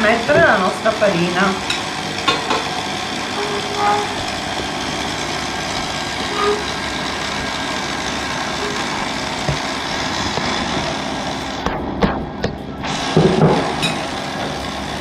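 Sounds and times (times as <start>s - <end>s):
stand mixer motor running: 0.0s - 15.0s.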